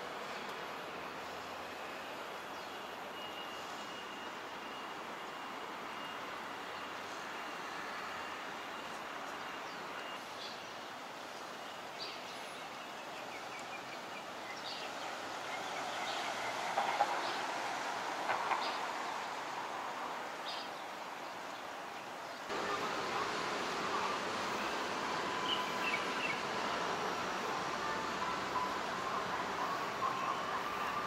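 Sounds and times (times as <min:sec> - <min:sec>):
distant traffic hum: 0:00.0 - 0:31.0.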